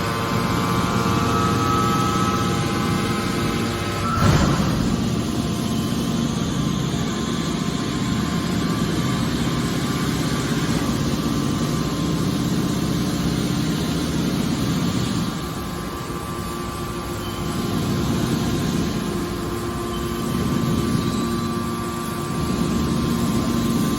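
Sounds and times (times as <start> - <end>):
hydraulic pump and motor drone: 0.0 - 23.9.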